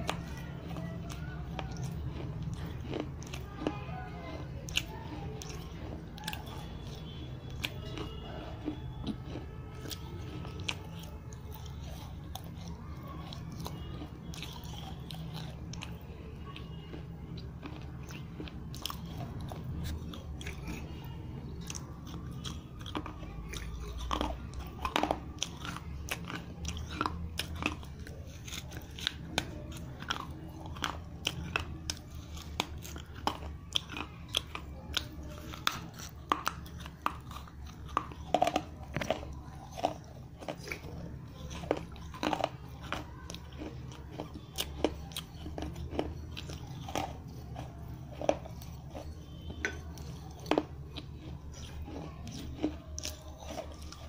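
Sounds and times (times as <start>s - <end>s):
teeth crunching clay pieces: 0.0s - 54.0s.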